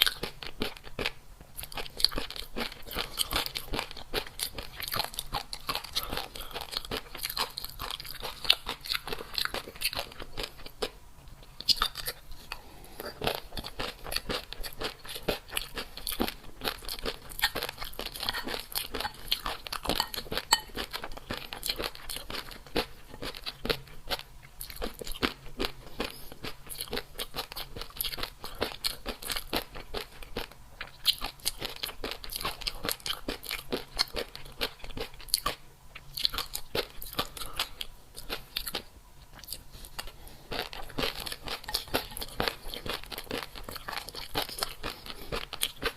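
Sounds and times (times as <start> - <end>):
crunching and chewing crisp food: 0.0 - 45.9.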